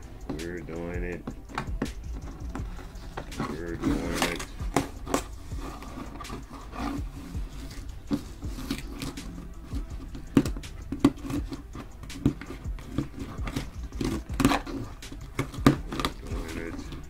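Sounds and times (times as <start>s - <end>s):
tape peeling off box: 2.7s - 17.0s
paper tearing: 2.9s - 17.0s.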